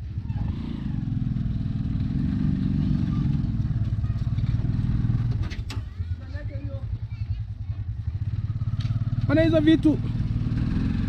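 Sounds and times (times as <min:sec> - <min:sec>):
auto-rickshaw engine running: 0:00.0 - 0:11.0.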